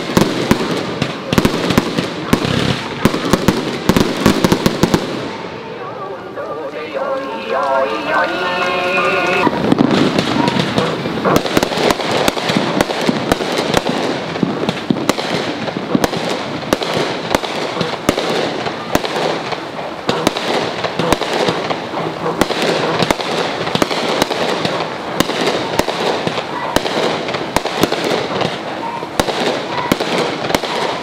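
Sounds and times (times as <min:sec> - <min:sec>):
continuous noisy wash: 0:00.0 - 0:31.0
fireworks cracking and popping: 0:00.0 - 0:31.0.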